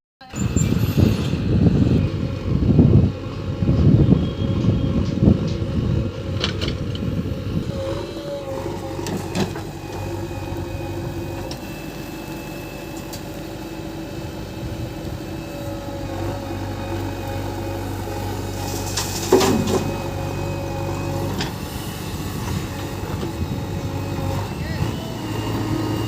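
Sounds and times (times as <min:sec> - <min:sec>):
diesel engine running: 0:00.2 - 0:26.0.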